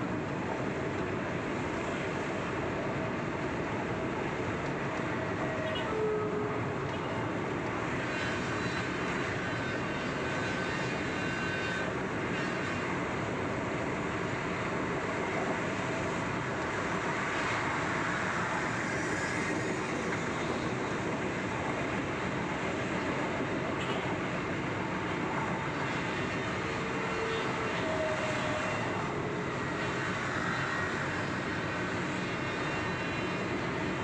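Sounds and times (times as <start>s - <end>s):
train rumbling along track: 0.0s - 34.0s.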